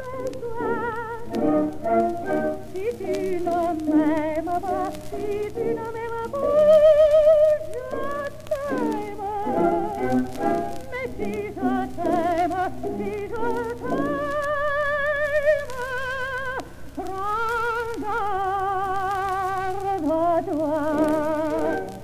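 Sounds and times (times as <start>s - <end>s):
operatic soprano singing: 0.0s - 22.0s.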